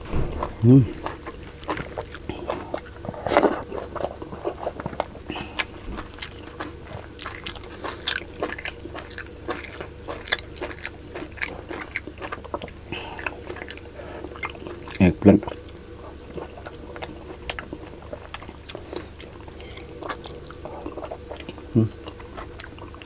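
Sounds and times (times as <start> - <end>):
person chewing and biting food: 0.2 - 23.0.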